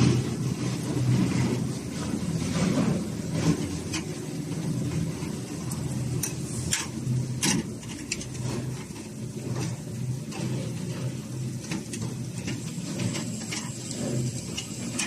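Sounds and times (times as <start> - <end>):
concrete mixer pump humming: 0.0 - 15.0.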